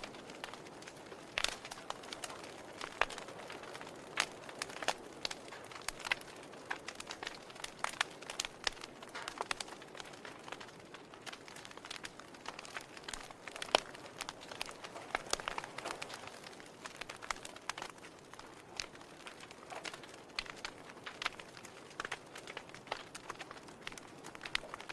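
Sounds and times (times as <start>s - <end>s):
low steady hiss: 0.0s - 24.9s
wood fire crackling: 0.0s - 24.9s.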